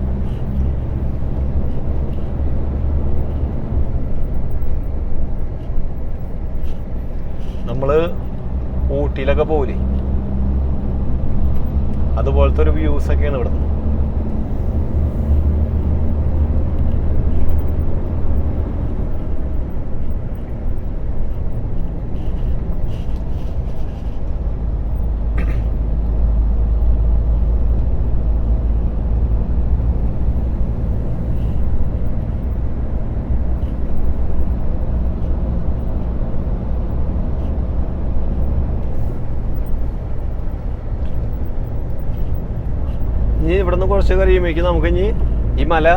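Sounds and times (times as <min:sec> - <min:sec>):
lorry diesel engine rumble: 0:00.0 - 0:45.9
road noise: 0:00.0 - 0:45.9.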